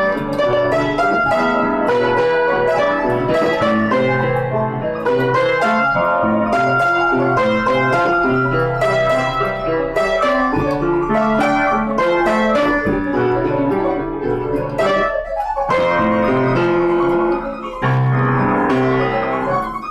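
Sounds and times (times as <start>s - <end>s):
piano music: 0.0s - 19.9s.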